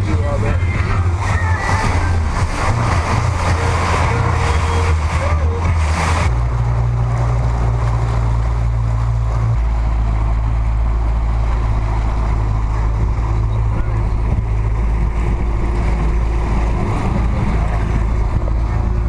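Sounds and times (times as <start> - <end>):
boat engine rumble: 0.0 - 19.0
hiss of wind and water: 0.0 - 19.0.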